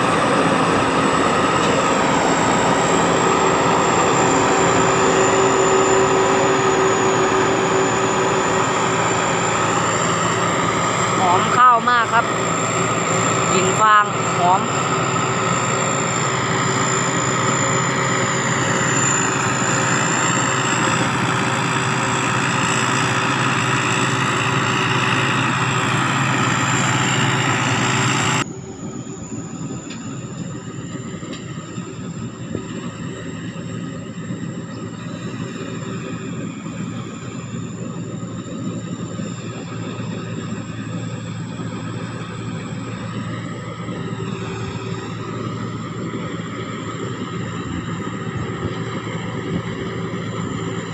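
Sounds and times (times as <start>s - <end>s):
combine harvester engine running: 0.0s - 50.9s
high turbocharger whistle: 0.0s - 50.9s.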